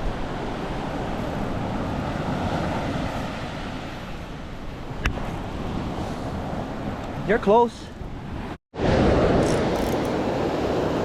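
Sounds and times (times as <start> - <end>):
ocean surf: 0.0 - 11.0.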